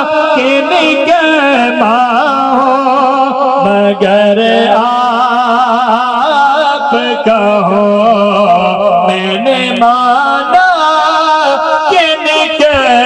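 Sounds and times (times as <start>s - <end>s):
men chanting devotional melody: 0.0s - 13.0s.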